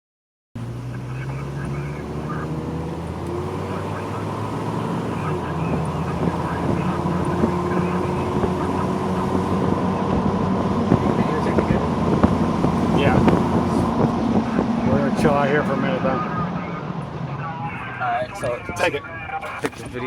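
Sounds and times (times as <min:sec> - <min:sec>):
road noise: 0:00.6 - 0:20.0
vehicle engine running: 0:00.6 - 0:20.0.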